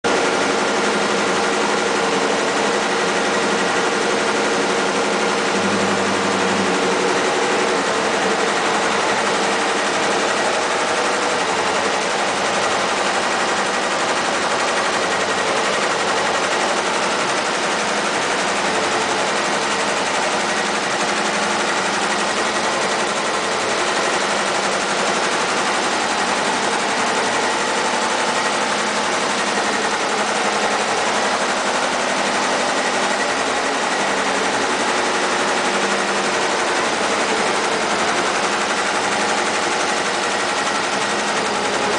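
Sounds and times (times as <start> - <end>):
embroidery machine clattering: 0.1 - 41.9.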